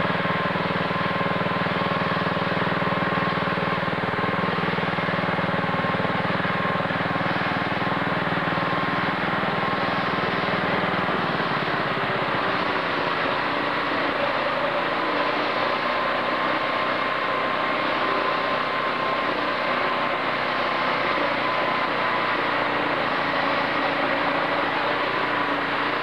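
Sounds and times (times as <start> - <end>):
snow blower engine droning: 0.0 - 26.0.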